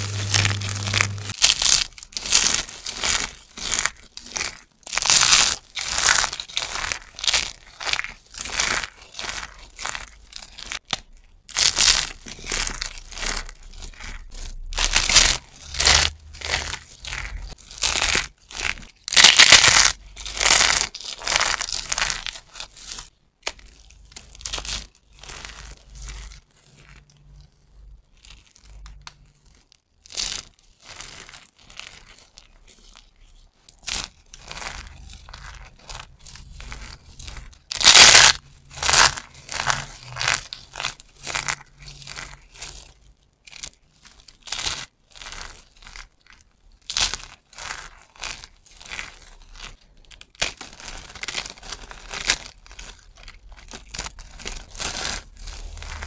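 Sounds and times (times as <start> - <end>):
bar soap crunching in hands: 0.0 - 56.0.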